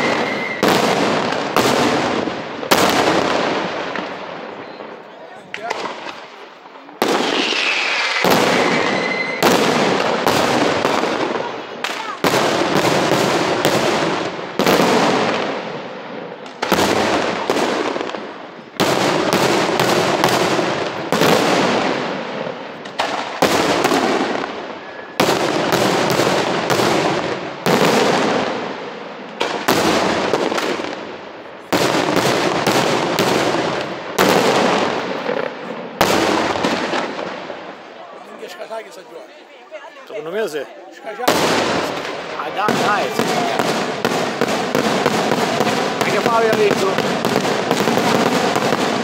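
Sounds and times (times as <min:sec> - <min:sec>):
fireworks bursting with sharp bangs: 0:00.0 - 0:49.0.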